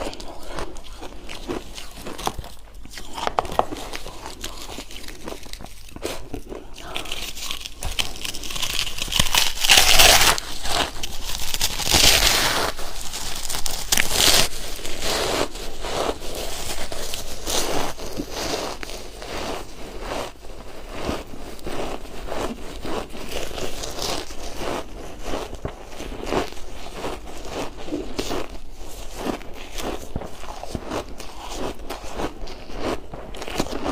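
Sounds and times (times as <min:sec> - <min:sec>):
ice being crunched and chewed: 0:00.0 - 0:33.9.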